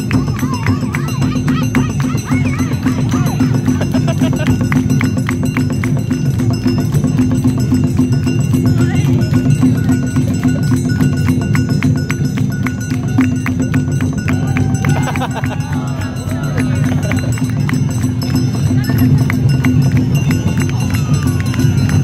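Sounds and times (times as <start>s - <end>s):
quick percussion strikes: 0.0s - 22.0s.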